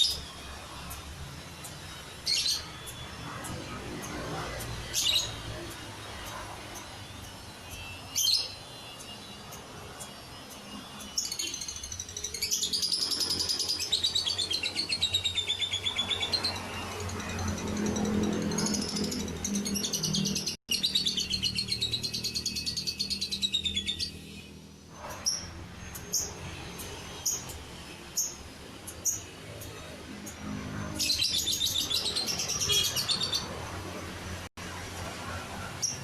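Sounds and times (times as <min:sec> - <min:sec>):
bird chirps: 0:01.6 - 0:33.7.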